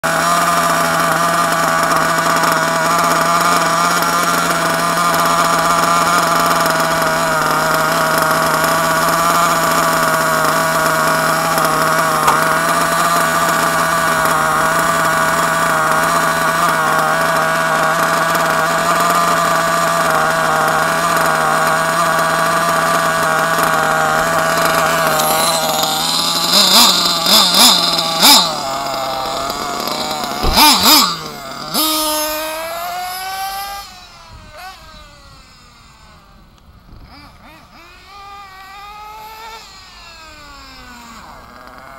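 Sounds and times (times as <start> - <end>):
small engine idling: 0.0 - 41.9.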